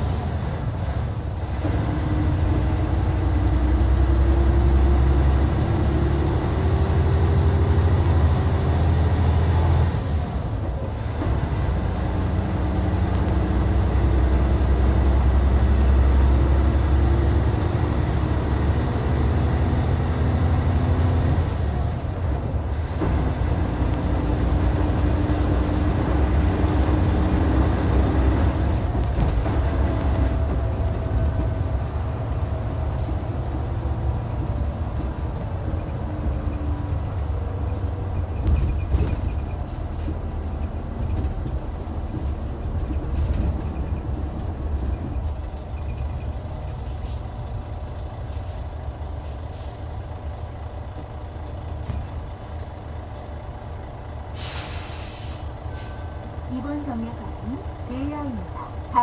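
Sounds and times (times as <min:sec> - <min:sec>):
diesel coach engine under load: 0:00.0 - 0:59.0.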